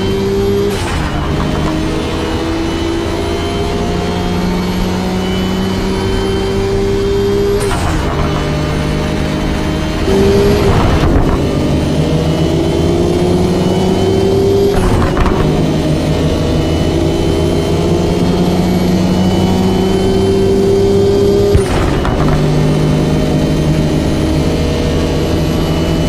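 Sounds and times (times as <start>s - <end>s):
car engine accelerating hard: 0.0s - 26.0s
gear upshifts: 0.0s - 26.0s.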